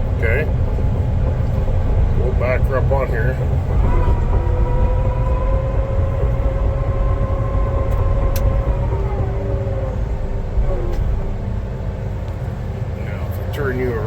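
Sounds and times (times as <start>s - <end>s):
bulldozer diesel engine rumble: 0.0s - 14.0s
engine whine: 0.0s - 14.0s.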